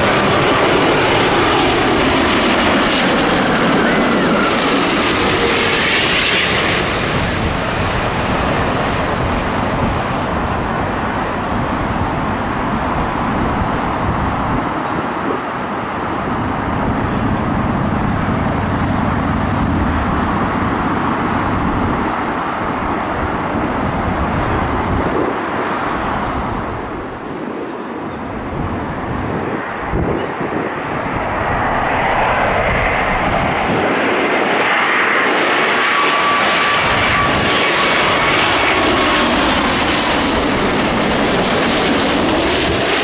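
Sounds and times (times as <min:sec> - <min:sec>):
wind rumble on microphone: 0:00.0 - 0:35.2, 0:36.0 - 0:43.0
jet airliner engine roar: 0:00.0 - 0:43.0.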